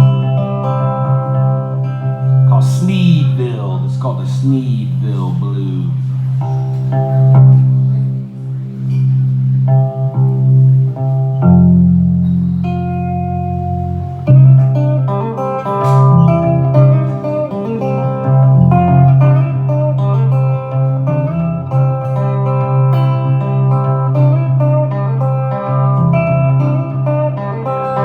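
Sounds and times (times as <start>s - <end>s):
guitar picked melody: 0.0s - 28.0s.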